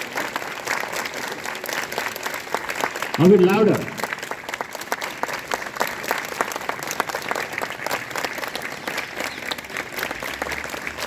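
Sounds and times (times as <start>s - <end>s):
children clapping: 0.0s - 11.0s.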